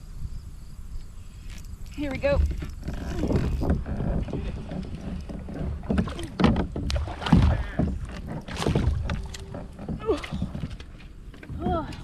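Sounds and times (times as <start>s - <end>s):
water splashing around a kayak: 1.9s - 12.0s.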